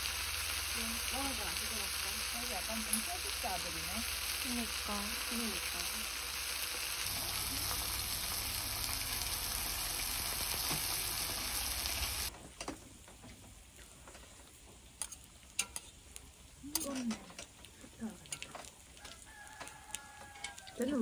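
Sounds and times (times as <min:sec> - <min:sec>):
meat sizzling on a hot pan: 0:00.0 - 0:12.3, 0:14.8 - 0:21.0.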